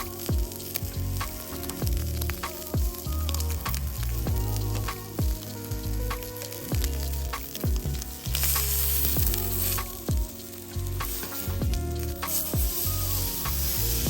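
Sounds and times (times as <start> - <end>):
background music with drum beats: 0.0 - 14.0
meat sizzling on a griddle: 0.0 - 14.0.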